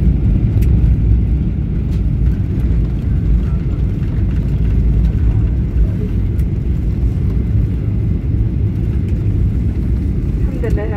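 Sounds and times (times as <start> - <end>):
airliner engines and wheels rumbling: 0.0 - 10.9.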